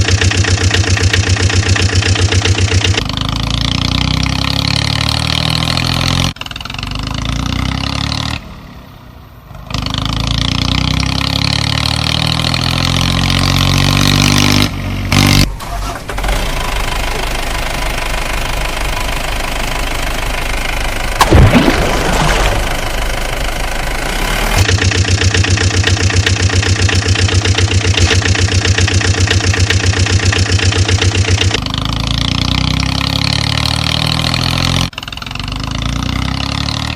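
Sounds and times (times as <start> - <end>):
engine revving: 0.0 - 8.8, 9.5 - 36.9.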